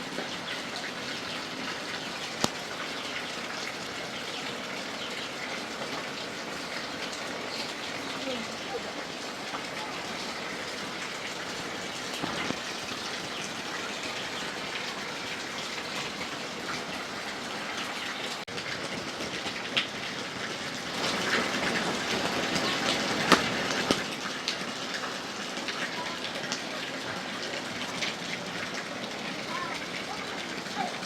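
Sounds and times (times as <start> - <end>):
water rushing with fine ticks: 0.0 - 31.0.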